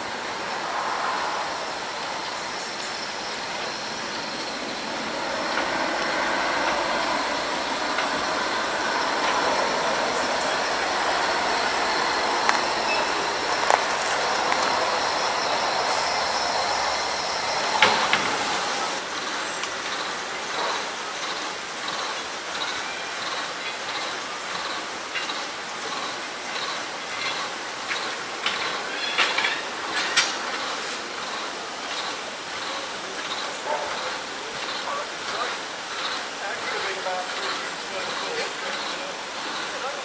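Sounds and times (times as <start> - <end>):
steam locomotive and carriages running: 0.0 - 40.0.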